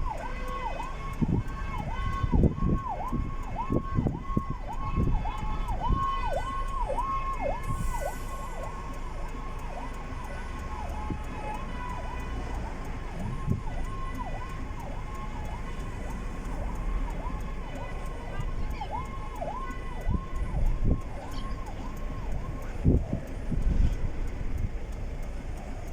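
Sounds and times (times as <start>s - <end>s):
fire engine siren: 0.0s - 25.9s.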